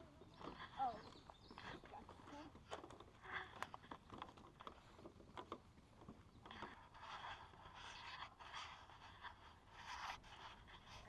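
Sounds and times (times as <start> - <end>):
footsteps on wooden boardwalk: 0.0 - 10.2.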